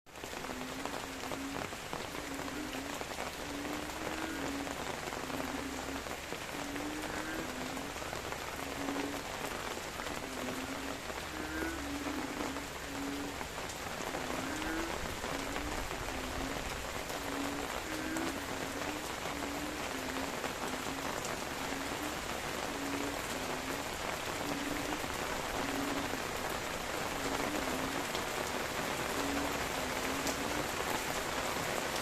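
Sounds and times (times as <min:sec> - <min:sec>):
rain pattering on leaves: 0:00.1 - 0:32.0
frogs croaking: 0:00.2 - 0:32.0.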